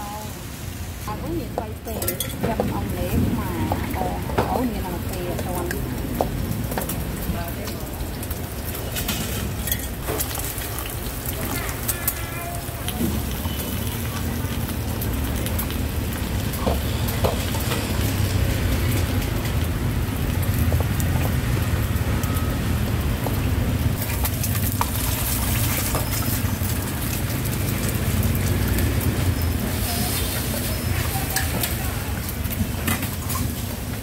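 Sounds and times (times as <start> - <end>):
rice sizzling in a wok: 0.0 - 34.0.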